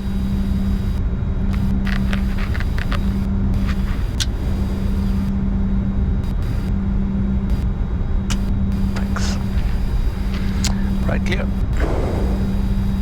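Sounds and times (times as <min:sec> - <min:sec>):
jet cockpit rumble and hum: 0:00.0 - 0:13.0.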